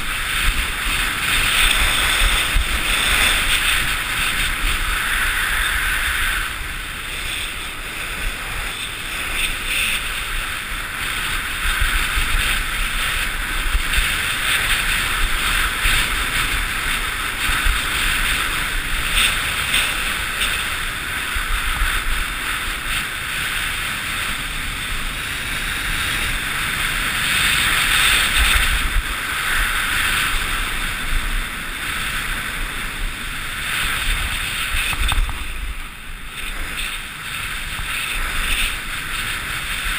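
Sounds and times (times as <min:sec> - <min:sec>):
skis scraping on packed snow: 0:00.0 - 0:39.9
wind rushing over microphone: 0:00.0 - 0:39.9.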